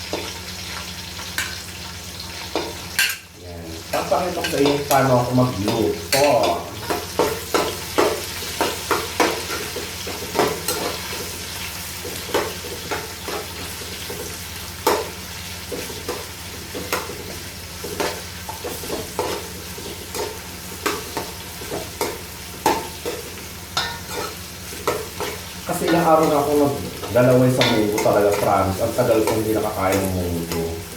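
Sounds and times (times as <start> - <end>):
food sizzling in oil: 0.0 - 30.9
spatula scraping and knocking pan: 3.9 - 11.4, 12.0 - 30.7.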